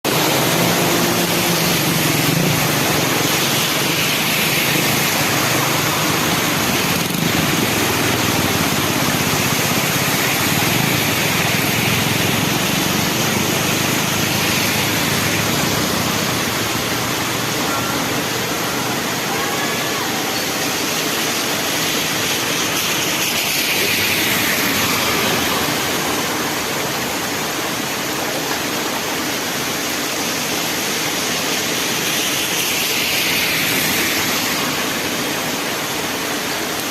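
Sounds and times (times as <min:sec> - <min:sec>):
heavy rain hissing: 0:00.1 - 0:36.9.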